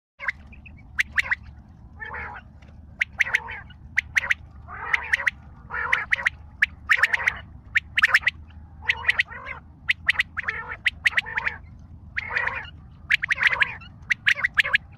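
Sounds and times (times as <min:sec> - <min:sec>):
quail calling: 0:00.2 - 0:14.9
steady low hum: 0:00.2 - 0:14.9.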